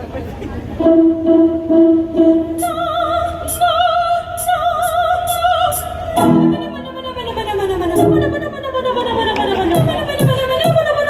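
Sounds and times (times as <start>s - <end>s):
backing music: 0.8s - 11.0s
operatic soprano singing: 0.8s - 11.0s.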